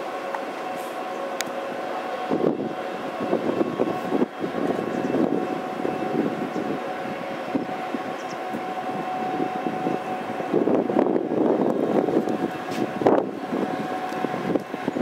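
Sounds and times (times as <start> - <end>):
faint train whine: 0.0 - 15.0
train rumble: 0.0 - 15.0
wind buffeting microphone: 2.2 - 15.0.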